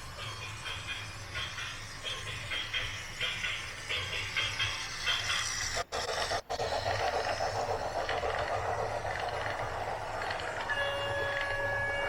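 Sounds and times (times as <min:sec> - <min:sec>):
heavy machinery rumbling and rattling: 0:00.0 - 0:11.6
steady high whine: 0:00.0 - 0:12.0.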